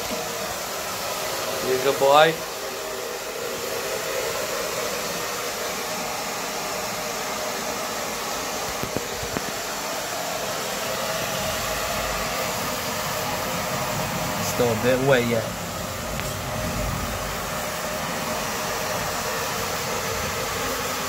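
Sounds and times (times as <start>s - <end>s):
blow dryer whirring: 0.0s - 21.0s.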